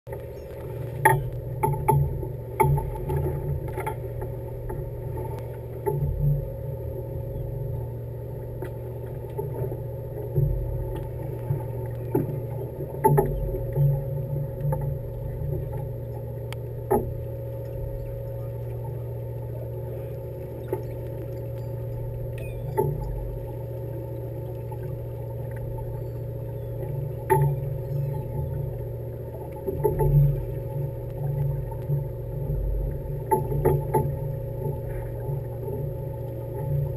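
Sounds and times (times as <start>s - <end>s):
boat engine humming: 0.1s - 36.9s.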